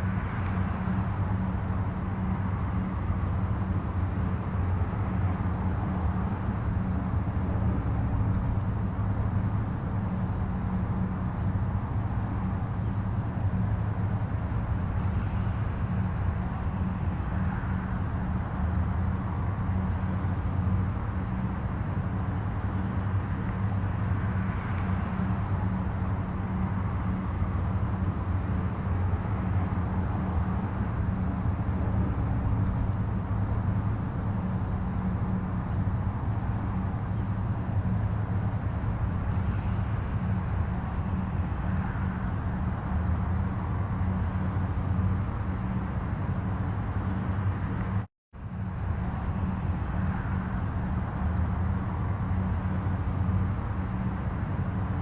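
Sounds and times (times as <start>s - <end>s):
distant highway traffic rumble: 0.0s - 55.0s.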